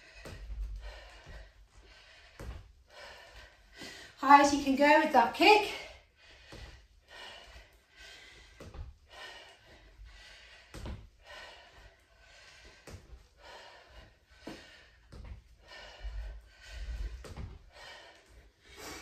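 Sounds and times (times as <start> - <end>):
person breathing hard: 0.0 - 4.2, 5.9 - 19.0.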